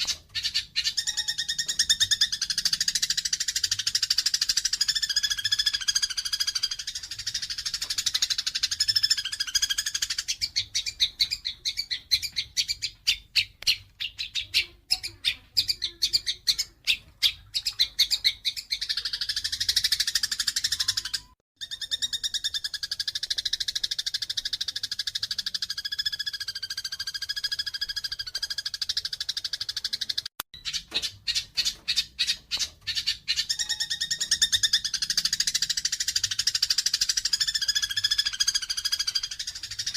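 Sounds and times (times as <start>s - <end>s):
sparrows chattering and chirping: 0.0s - 39.9s.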